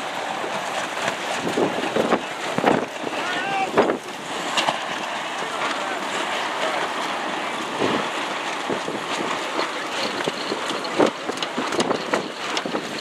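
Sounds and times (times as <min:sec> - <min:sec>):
wind on microphone: 0:00.0 - 0:05.2, 0:07.2 - 0:13.0
water splashing against boat hull: 0:00.0 - 0:13.0.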